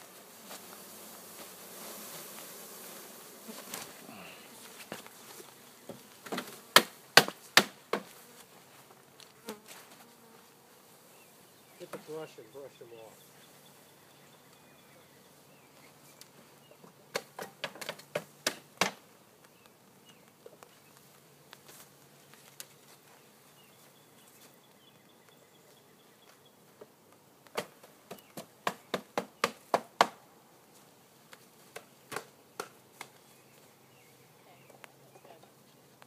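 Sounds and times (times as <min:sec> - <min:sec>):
honeybees buzzing: 0:00.0 - 0:30.1.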